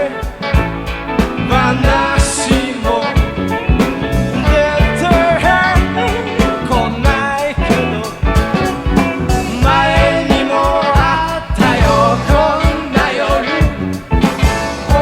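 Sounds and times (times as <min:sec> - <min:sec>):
bass: 0:00.0 - 0:15.0
bending lead melody: 0:00.0 - 0:15.0
drums steady beat: 0:00.0 - 0:15.0.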